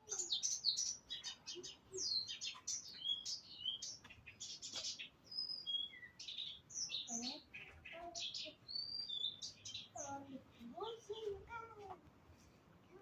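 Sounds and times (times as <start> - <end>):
songbird singing: 0.0 - 11.6.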